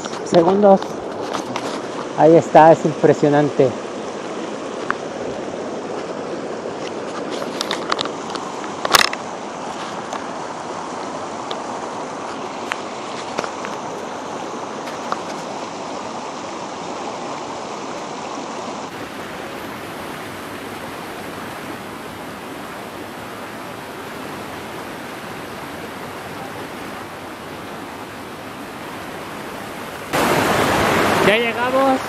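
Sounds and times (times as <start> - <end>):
waterfall rushing: 0.0 - 6.8, 7.6 - 32.0
mountain stream: 0.0 - 32.0.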